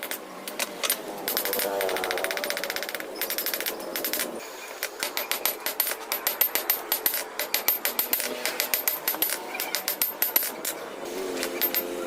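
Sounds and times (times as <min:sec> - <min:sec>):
hammer striking steel: 0:00.0 - 0:12.0.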